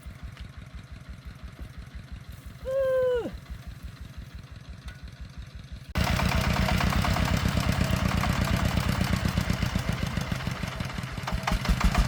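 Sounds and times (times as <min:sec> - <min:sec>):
diesel engine thumping: 0:00.0 - 0:12.0.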